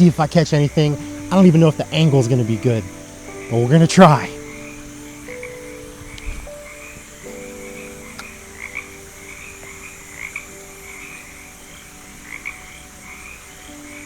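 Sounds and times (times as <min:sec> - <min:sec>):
frogs calling: 0:00.0 - 0:14.0
steady high hiss: 0:00.0 - 0:14.0.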